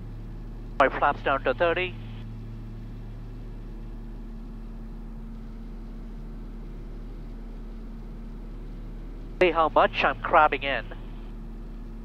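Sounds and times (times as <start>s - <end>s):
aircraft cabin engine drone: 0.0s - 12.0s.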